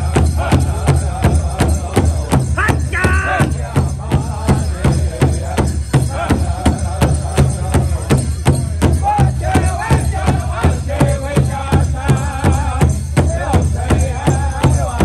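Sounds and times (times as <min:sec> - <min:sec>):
group singing: 0:00.0 - 0:15.0
large hide drum beating: 0:00.0 - 0:15.0.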